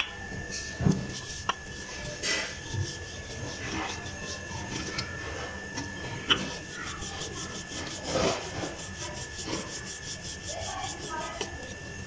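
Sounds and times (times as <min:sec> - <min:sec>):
rolling pin rolling dough: 0:00.0 - 0:12.0.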